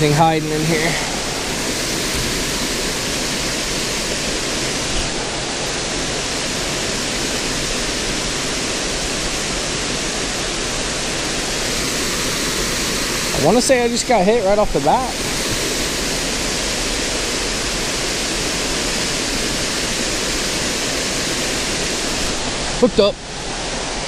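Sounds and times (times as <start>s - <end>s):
waterfall rushing water: 0.0s - 24.0s.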